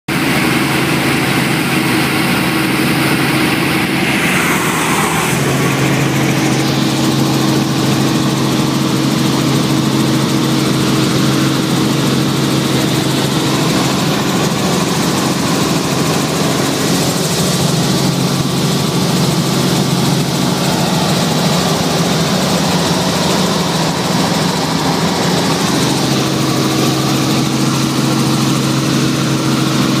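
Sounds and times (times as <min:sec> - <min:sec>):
helicopter engine and rotor drone: 0:00.1 - 0:30.0.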